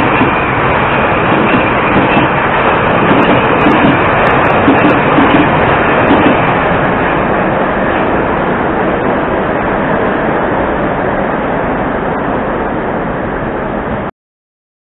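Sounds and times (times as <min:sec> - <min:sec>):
metro train rumble and hiss: 0:00.0 - 0:14.1.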